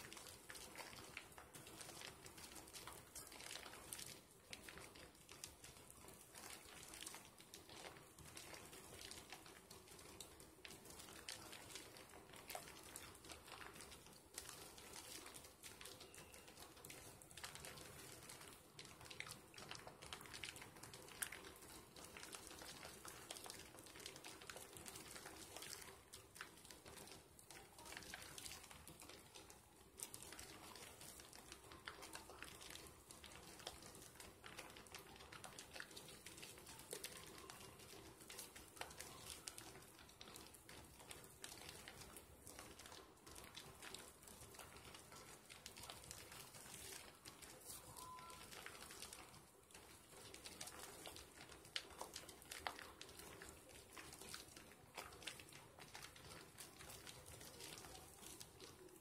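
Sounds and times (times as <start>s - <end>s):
soap lather squishing: 0.0s - 59.0s.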